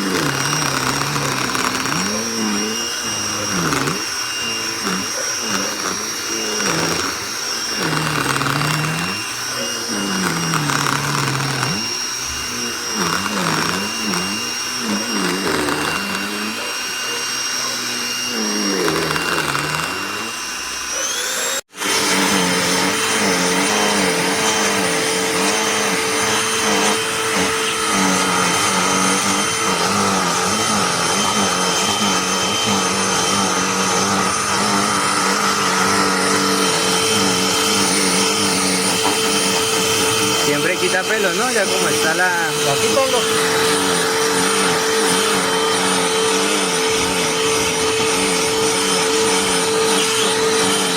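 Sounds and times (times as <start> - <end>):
handheld vacuum running: 0.0 - 50.9.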